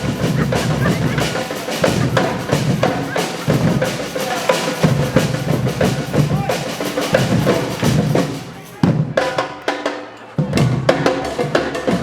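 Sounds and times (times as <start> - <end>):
drum band playing: 0.0 - 12.0.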